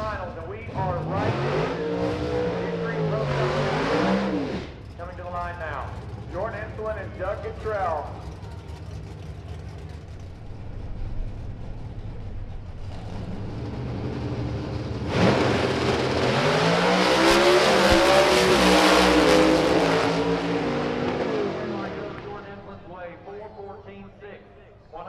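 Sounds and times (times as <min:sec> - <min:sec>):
cars launching and accelerating: 0:00.0 - 0:24.2
drag racing engines revving: 0:00.0 - 0:25.0.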